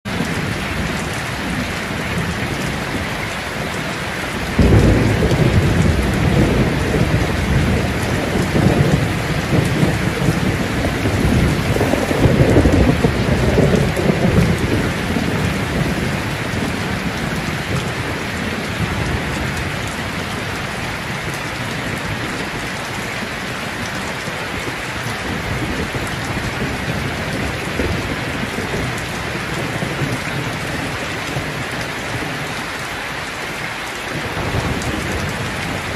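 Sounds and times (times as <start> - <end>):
rain on plastic sheeting: 0.0 - 35.9
thunder rumble: 0.1 - 32.6, 34.1 - 35.9.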